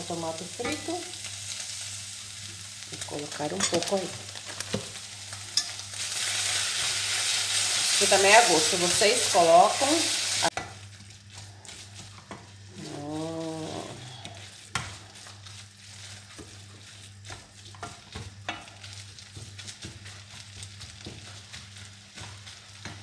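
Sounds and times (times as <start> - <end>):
light sizzling: 0.0 - 23.0.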